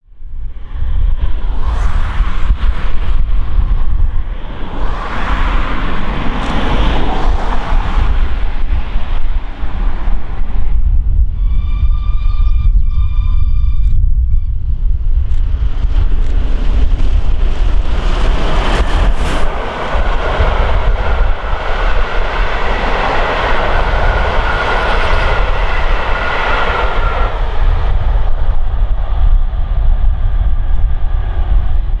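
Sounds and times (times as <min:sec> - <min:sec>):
steam train passing at speed: 0:01.3 - 0:10.8, 0:15.5 - 0:32.0.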